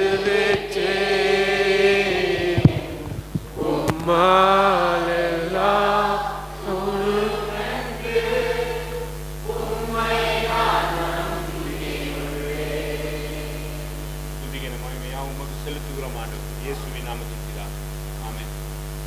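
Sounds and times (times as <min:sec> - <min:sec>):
low held tone: 0:00.0 - 0:16.6
slow worship singing: 0:00.0 - 0:17.0.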